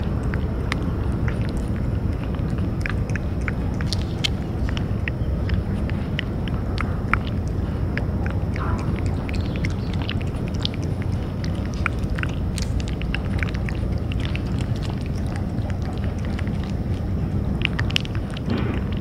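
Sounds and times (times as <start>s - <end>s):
cat chewing food: 0.0s - 19.0s
low background rumble: 0.0s - 19.0s.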